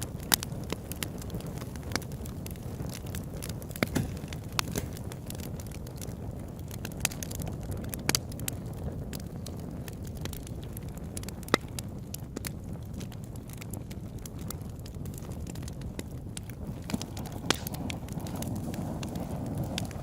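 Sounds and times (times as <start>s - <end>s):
campfire crackling: 0.0s - 20.0s
low rush of fire: 0.0s - 20.0s.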